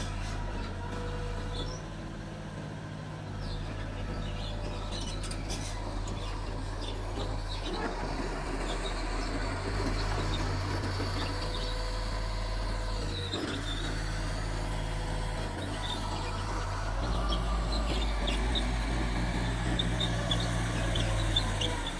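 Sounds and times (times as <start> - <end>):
bulldozer diesel engine running: 0.0 - 21.9.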